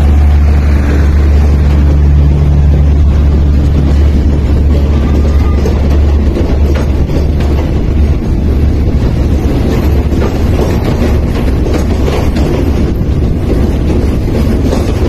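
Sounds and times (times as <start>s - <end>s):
train low rumble: 0.0s - 15.0s
wheels clicking over rail joints: 0.0s - 15.0s.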